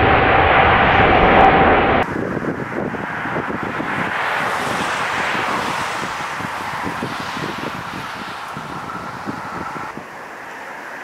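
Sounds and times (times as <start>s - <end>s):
wind buffeting microphone: 0.0s - 10.2s
distant jet rush on runway: 0.0s - 11.0s
jet engines whining: 0.0s - 11.0s.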